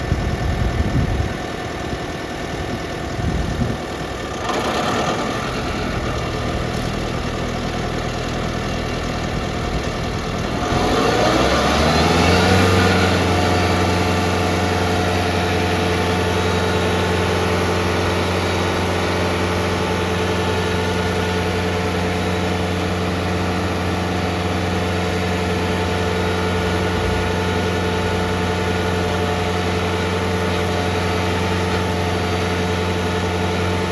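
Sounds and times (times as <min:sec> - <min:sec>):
stump grinder engine revving: 0:03.5 - 0:33.9.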